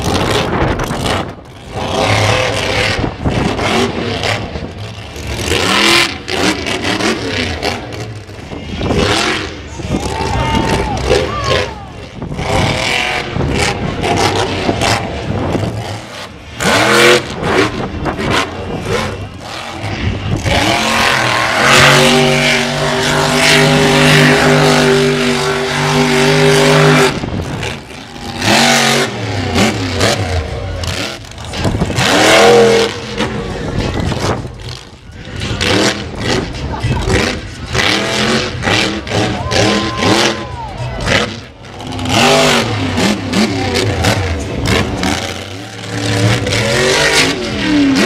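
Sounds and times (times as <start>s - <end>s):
truck engine revving hard: 0.0s - 48.0s.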